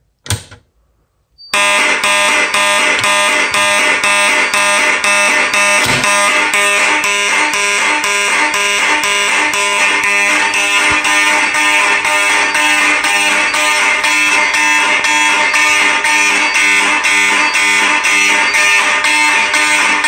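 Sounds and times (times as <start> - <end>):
pulsing fire alarm horns: 1.4 - 20.0.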